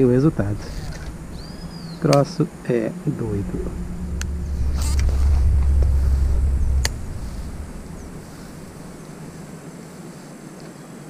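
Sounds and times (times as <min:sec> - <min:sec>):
low rumble on microphone: 0:00.0 - 0:09.7.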